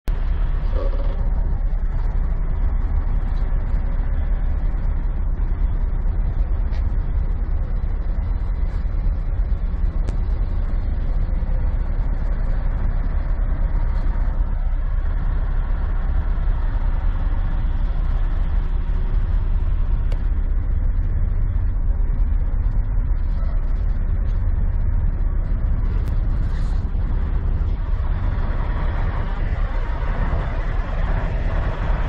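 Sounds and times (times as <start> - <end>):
diesel truck engine idling: 0.1 - 32.0.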